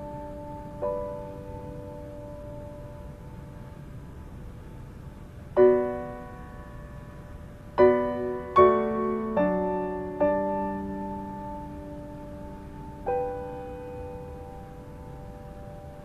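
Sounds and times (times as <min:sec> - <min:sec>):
piano chords ringing: 0:00.0 - 0:16.0.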